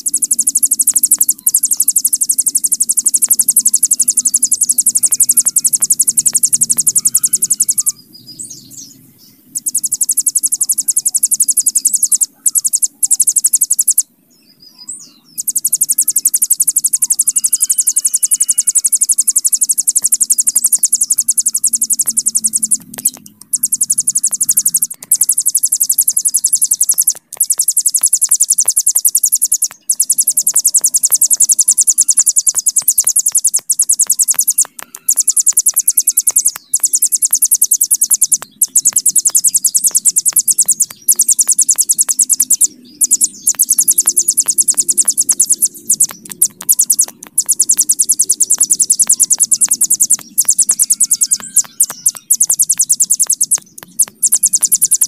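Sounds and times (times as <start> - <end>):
bird high buzzing trill: 0.0 - 14.1, 14.8 - 55.0.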